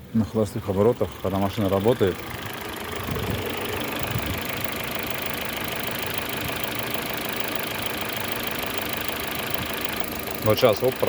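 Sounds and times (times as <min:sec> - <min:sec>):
car engine idling: 0:00.0 - 0:11.0
rapid engine knock: 0:00.4 - 0:11.0.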